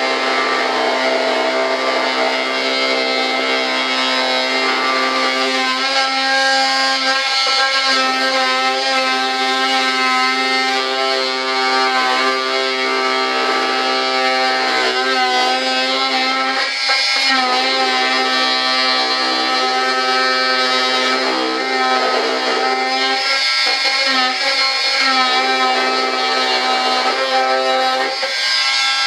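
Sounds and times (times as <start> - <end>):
rotary tool cutting plastic whine: 0.0 - 29.0.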